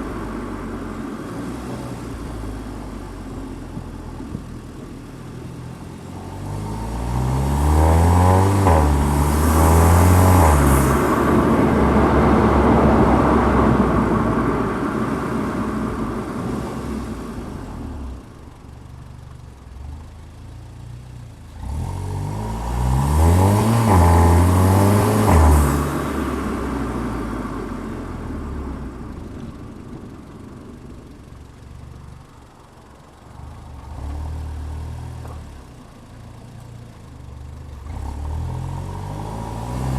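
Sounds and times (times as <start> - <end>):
car engine accelerating hard: 0.0 - 18.7, 19.7 - 39.9.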